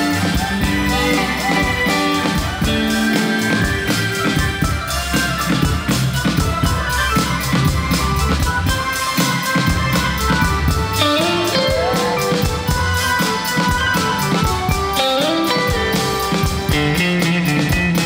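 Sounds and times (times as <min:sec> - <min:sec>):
dance music with drum beat: 0:00.0 - 0:18.0.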